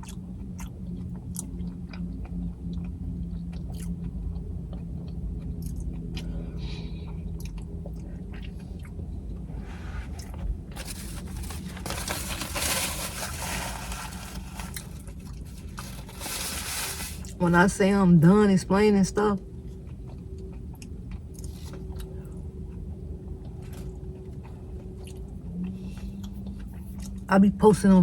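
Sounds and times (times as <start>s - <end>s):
chewing and biting food: 0.0s - 16.3s, 19.6s - 27.3s.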